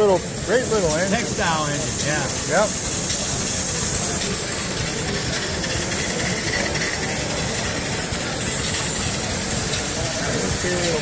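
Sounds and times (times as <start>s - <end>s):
mechanical din of model engines: 0.0s - 11.0s
model engine running on air: 0.0s - 11.0s.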